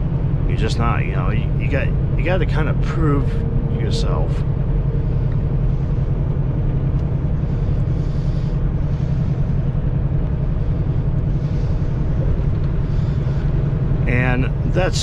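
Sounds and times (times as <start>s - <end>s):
diesel truck engine drone: 0.0s - 15.0s
road noise: 0.0s - 15.0s.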